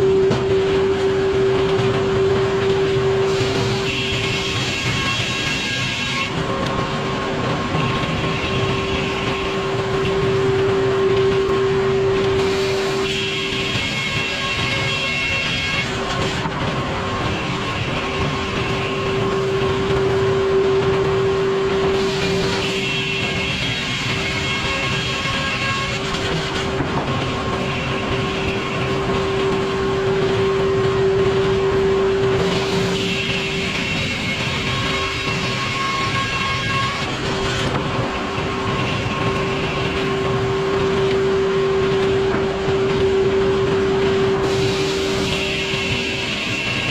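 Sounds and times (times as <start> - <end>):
sawmill running: 0.0 - 46.9.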